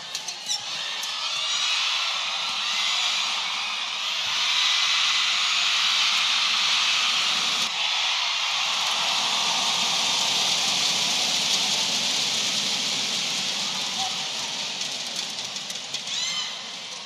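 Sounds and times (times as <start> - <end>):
crowd noise indoors: 0.0 - 17.0.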